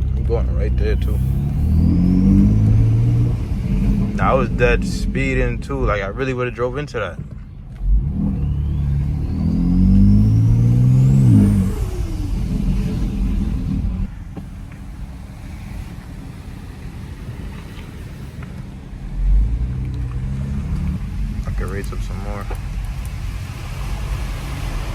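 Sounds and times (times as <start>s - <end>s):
car engine accelerating: 0.0s - 24.9s
road noise: 0.0s - 24.9s
turbo whine: 0.0s - 24.9s.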